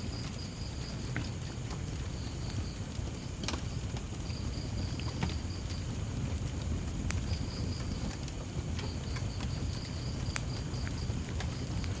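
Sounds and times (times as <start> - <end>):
cricket chirping: 0.0 - 12.0
wood fire crackling: 0.0 - 12.0.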